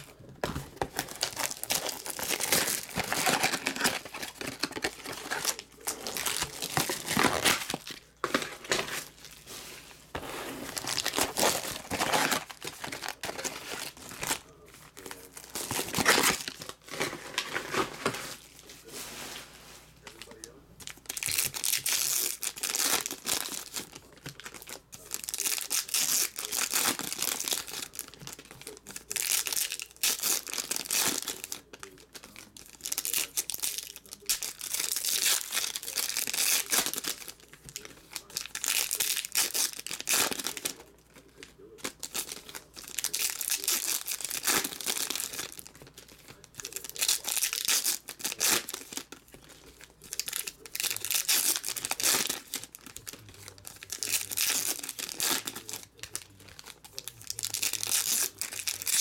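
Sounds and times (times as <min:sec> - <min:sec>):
foil wrappers tearing and crinkling: 0:00.0 - 0:09.7, 0:10.5 - 0:19.2, 0:20.0 - 0:59.0.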